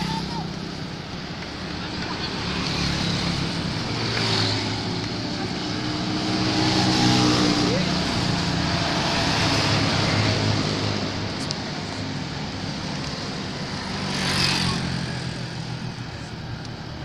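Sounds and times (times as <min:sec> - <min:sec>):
vehicle engine with tyre noise: 0:00.0 - 0:17.0
vehicle passing by: 0:01.5 - 0:15.6.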